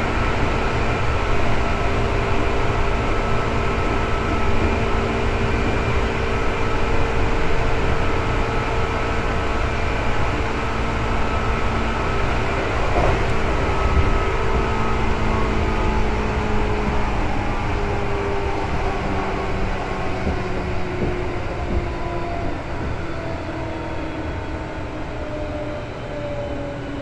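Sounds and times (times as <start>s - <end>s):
train interior rumble: 0.0s - 27.0s.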